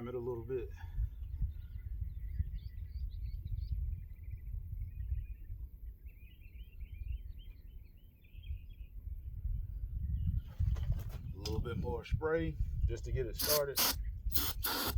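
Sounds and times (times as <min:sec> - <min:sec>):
small birds chirping: 0:00.0 - 0:14.9
wind rumble on microphone: 0:00.0 - 0:14.9.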